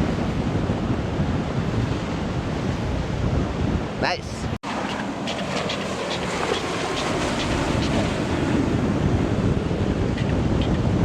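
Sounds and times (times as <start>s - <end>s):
choppy water wash: 0.0s - 11.0s
wind: 0.0s - 11.0s.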